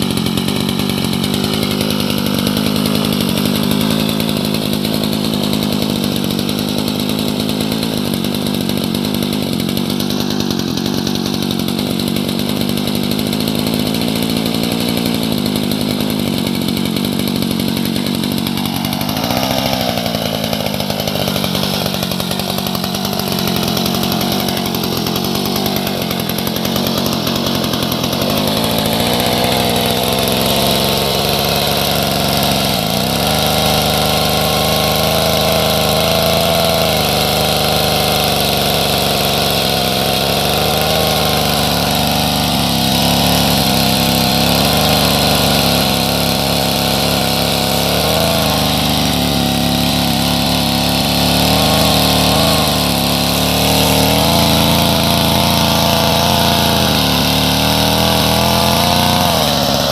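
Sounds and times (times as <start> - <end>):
two-stroke chainsaw engine running: 0.0 - 59.9.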